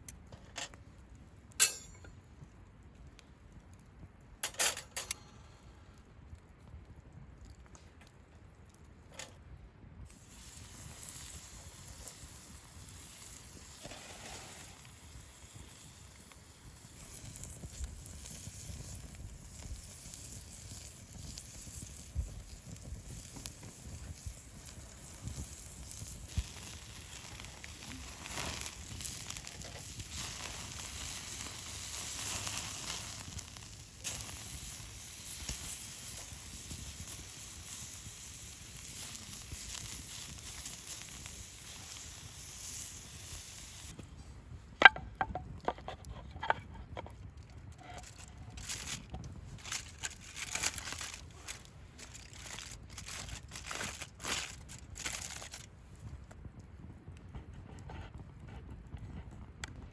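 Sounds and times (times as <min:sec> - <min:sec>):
campfire hissing and crackling: 0:00.0 - 0:59.9.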